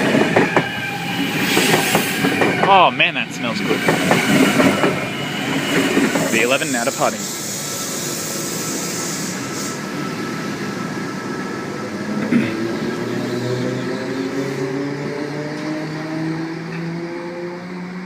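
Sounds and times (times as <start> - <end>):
electric train accelerating: 0.0 - 18.0.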